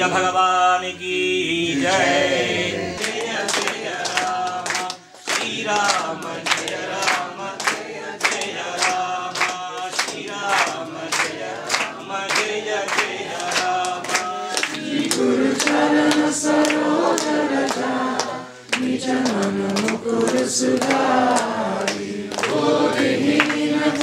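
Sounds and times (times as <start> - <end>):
group chanting in unison: 0.0 - 24.0
sharp rhythmic beats: 2.0 - 24.0.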